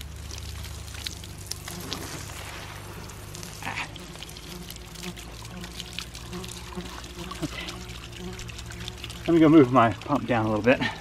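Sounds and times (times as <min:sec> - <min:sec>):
water splattering onto grass: 0:00.0 - 0:11.0.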